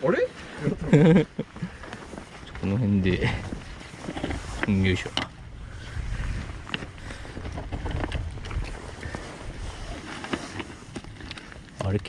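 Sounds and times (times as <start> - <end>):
wind rumbling on microphone: 0.5 - 12.0.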